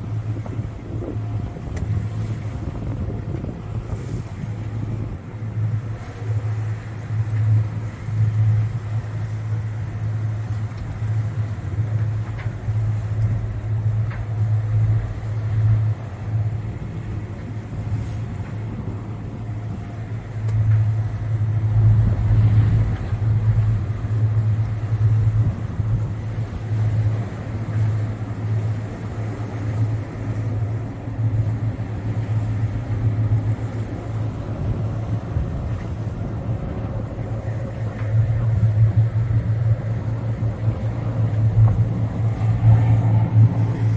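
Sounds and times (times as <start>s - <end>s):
boat engine droning: 0.0s - 43.9s
water noise: 0.0s - 43.9s
wind: 0.0s - 43.9s.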